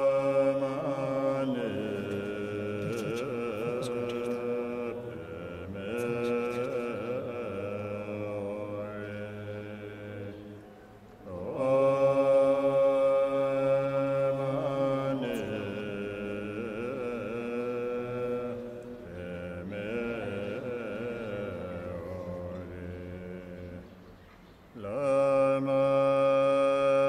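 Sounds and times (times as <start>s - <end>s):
person chanting: 0.0s - 24.2s, 24.8s - 27.0s.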